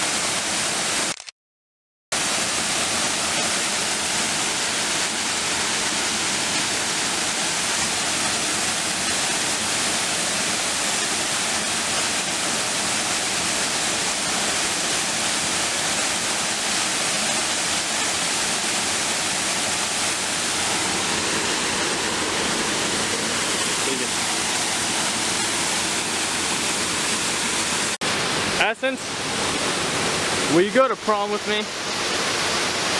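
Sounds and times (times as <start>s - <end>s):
waterfall rushing: 0.0s - 1.1s, 2.2s - 32.9s.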